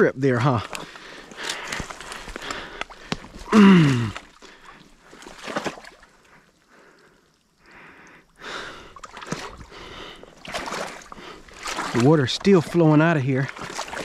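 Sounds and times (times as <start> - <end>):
footsteps sloshing through water and mud: 0.0 - 14.0.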